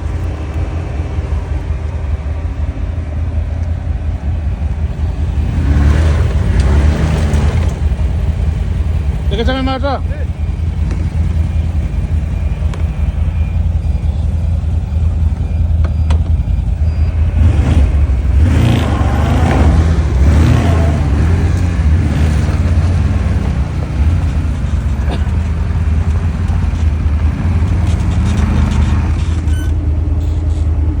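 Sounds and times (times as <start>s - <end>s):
vehicle engine rumbling and revving: 0.0s - 31.0s.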